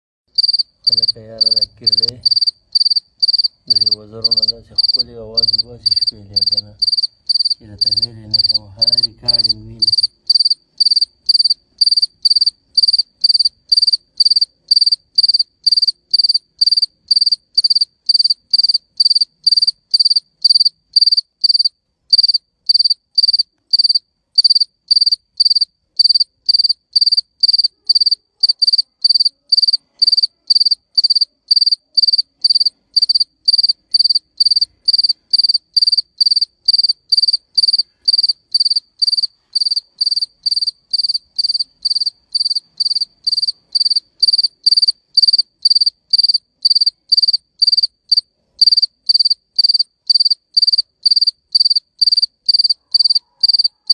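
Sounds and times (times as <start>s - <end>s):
cricket chirping: 0.3s - 53.9s.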